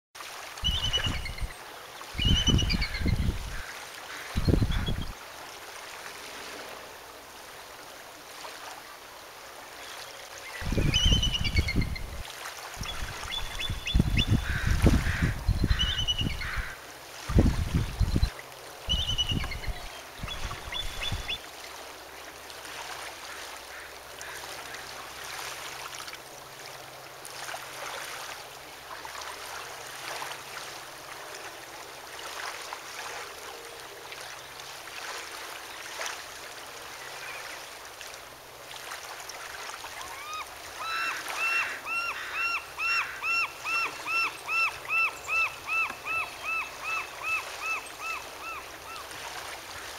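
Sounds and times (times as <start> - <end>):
water washing at shore: 0.2 - 49.9.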